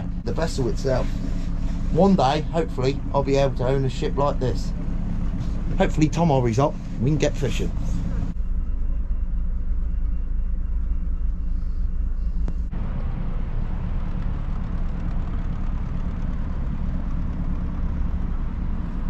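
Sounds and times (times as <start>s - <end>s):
low mechanical rumble: 0.0s - 19.0s.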